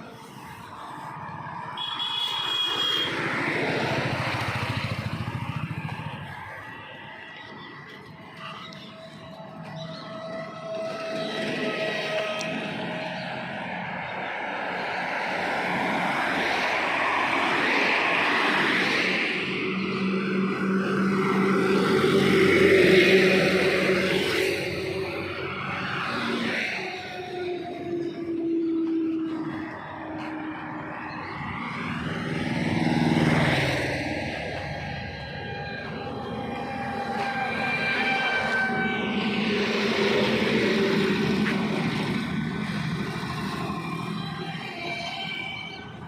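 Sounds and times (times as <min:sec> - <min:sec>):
truck passing by: 0:02.4 - 0:46.0.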